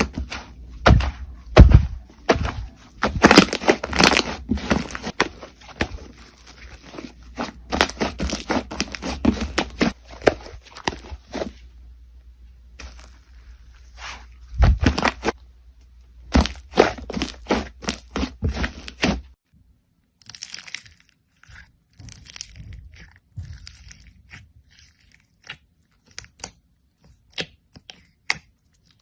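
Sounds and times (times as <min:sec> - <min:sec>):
crunchy slime crackling: 0:00.0 - 0:11.6, 0:16.2 - 0:19.4, 0:20.0 - 0:29.0.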